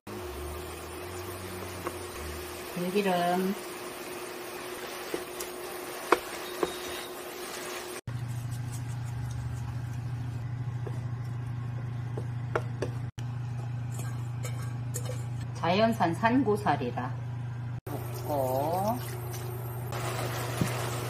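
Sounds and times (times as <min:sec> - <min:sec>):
cooktop low hum: 0:00.1 - 0:21.0.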